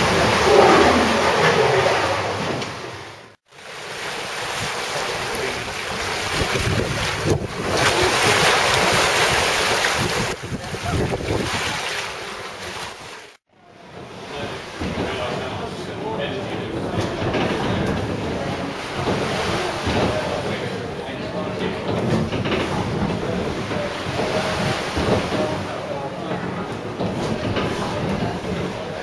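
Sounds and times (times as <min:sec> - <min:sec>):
water rushing and churning: 0:00.0 - 0:29.0.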